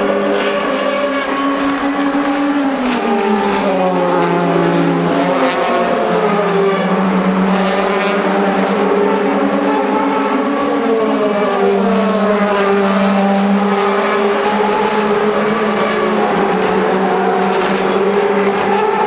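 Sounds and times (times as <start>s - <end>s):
racing car engines: 0.0s - 19.0s.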